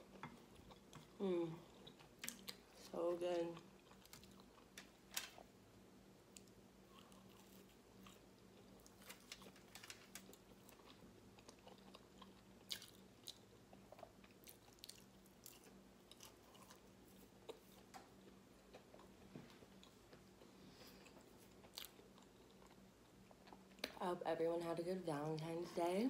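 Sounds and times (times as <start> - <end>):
soft crunchy chewing: 0.0 - 5.6, 6.2 - 24.0.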